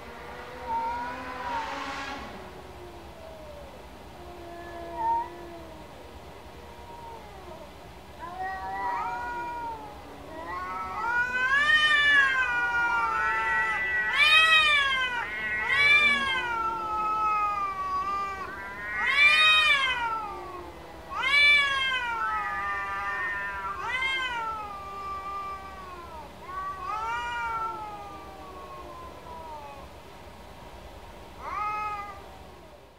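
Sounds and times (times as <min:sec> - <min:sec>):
cats yowling: 0:00.4 - 0:01.7, 0:02.6 - 0:30.0, 0:31.4 - 0:32.8.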